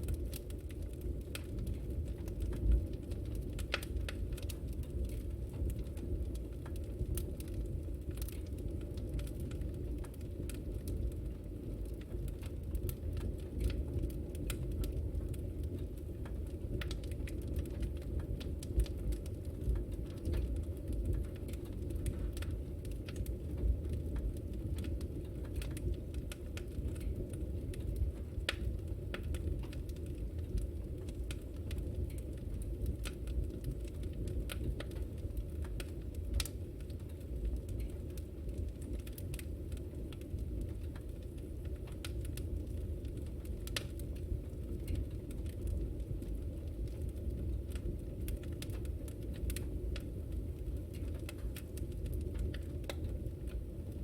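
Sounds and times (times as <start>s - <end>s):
fire pops and crackles: 0.0s - 54.0s
low rumble of flames: 0.0s - 54.0s.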